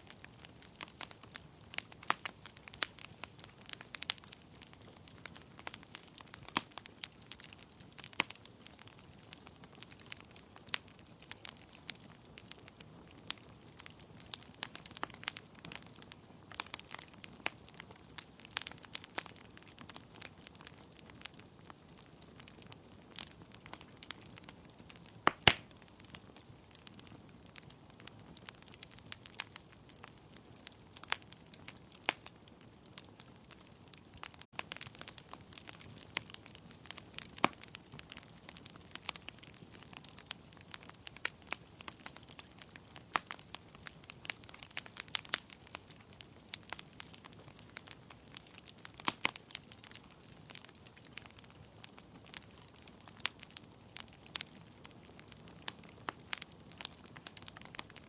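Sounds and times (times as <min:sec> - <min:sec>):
wood logs crackling and popping: 0:00.0 - 0:58.0.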